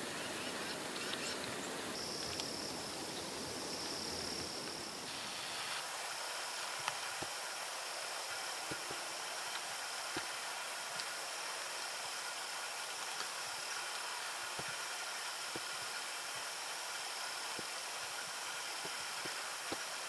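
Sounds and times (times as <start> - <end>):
background hiss: 0.0 - 20.0
high insect buzz: 0.0 - 20.0.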